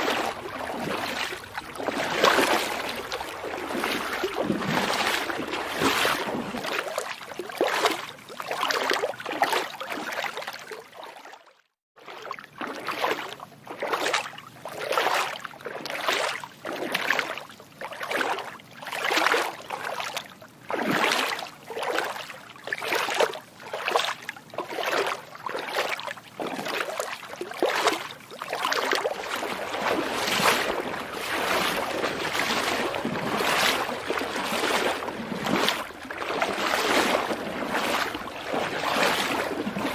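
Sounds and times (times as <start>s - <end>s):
footsteps splashing through water: 0.0s - 11.4s, 12.0s - 39.9s.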